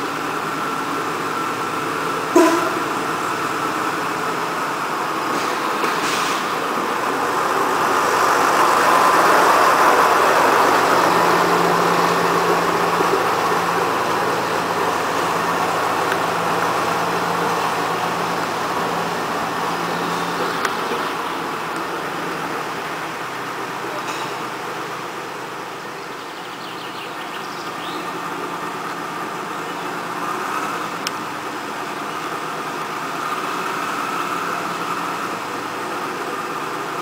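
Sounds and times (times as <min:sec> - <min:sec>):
low engine hum: 0:00.0 - 0:37.0
small train running past: 0:00.0 - 0:37.0.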